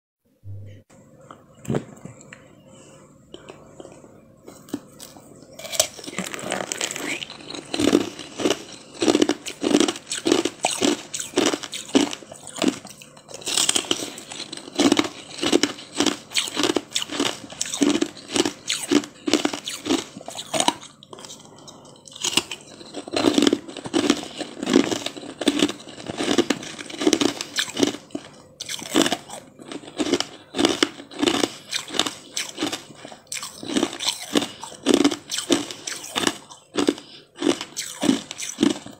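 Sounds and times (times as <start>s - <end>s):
chewing and crunching frozen jelly: 3.3s - 38.9s.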